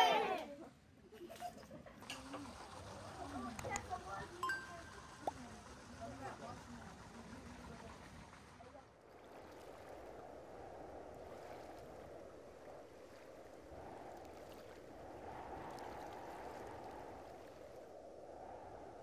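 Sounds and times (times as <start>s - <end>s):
low rushing outdoor noise: 0.0s - 19.0s.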